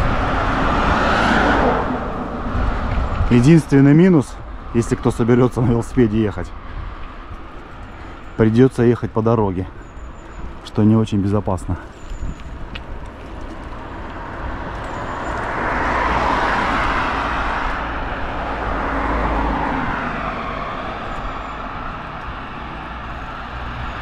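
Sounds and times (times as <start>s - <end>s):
cars passing: 0.0s - 24.0s.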